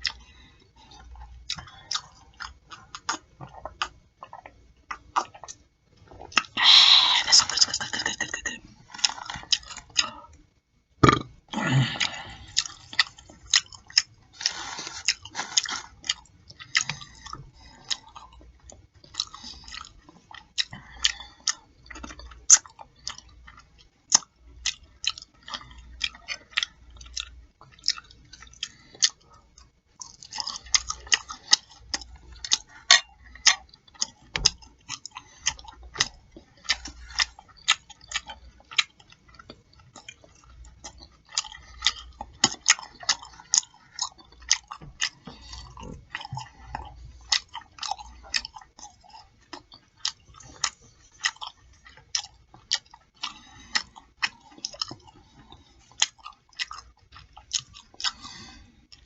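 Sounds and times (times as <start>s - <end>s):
chewing and lip-smacking: 0.0s - 11.2s, 11.9s - 59.0s.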